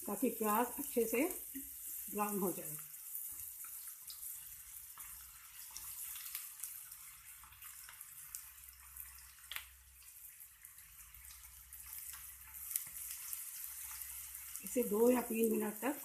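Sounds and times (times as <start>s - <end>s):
onions sizzling in a pan: 0.0s - 16.0s.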